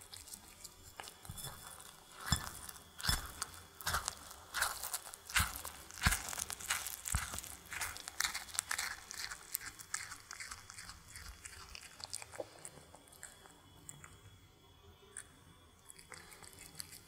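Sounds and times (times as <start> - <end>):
cat chewing crunchy food: 0.0 - 14.4, 15.1 - 17.0.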